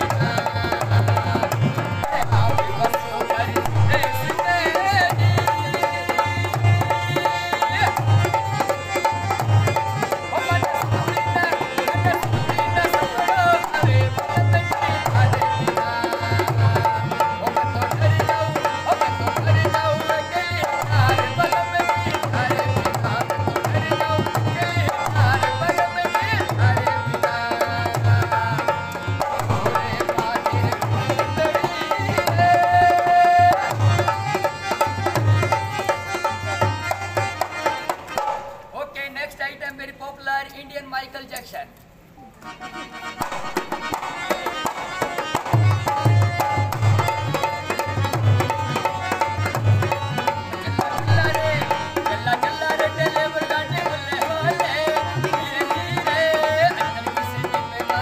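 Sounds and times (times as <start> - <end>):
harmonium melody: 0.0 - 39.9, 42.0 - 58.0.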